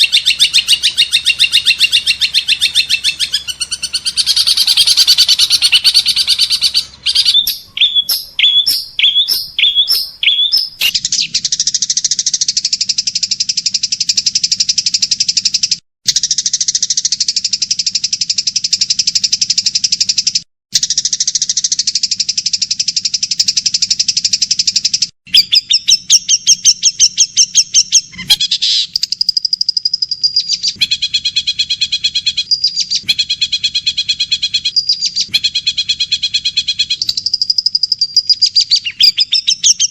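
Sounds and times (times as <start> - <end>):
songbird chirps and trills: 0.0 - 17.6, 20.8 - 39.9.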